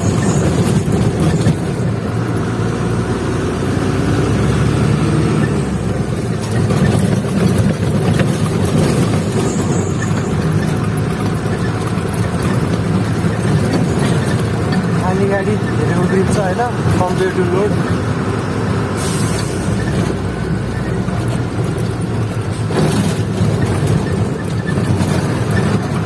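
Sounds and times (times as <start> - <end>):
road noise: 0.0 - 26.0
truck engine running: 0.0 - 26.0.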